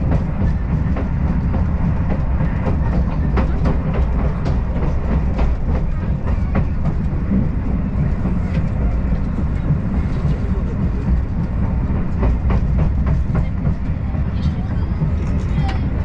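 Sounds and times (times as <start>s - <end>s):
train rumble inside passenger car: 0.0s - 16.0s
wheels clicking on track: 0.0s - 16.0s.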